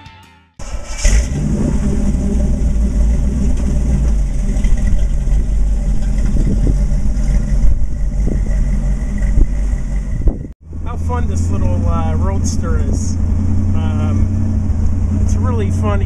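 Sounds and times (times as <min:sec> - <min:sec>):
car engine exhaust rumble: 0:00.6 - 0:16.0.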